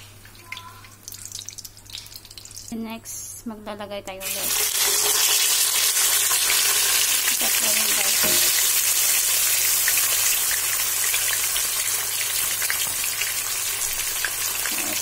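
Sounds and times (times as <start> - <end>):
oil crackling and popping: 0.0 - 2.7, 4.2 - 15.0
food sizzling in hot oil: 0.5 - 2.8, 4.2 - 15.0.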